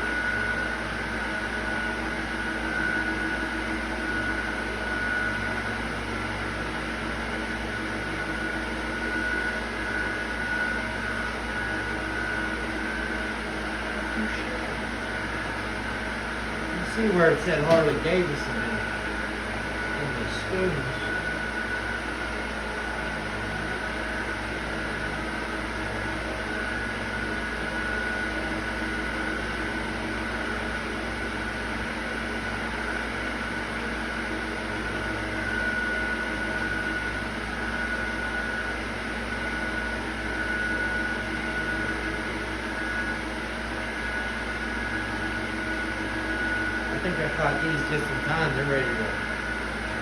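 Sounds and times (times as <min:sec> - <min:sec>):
faint high whine: 0:00.0 - 0:50.0
steady mechanical hum: 0:00.0 - 0:50.0.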